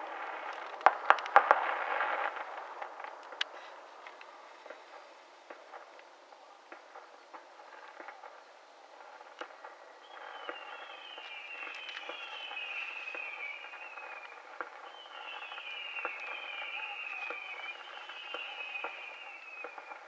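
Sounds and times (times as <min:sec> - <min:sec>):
firework pops and crackles: 0:00.0 - 0:20.0
whistling firework shots: 0:00.0 - 0:20.0.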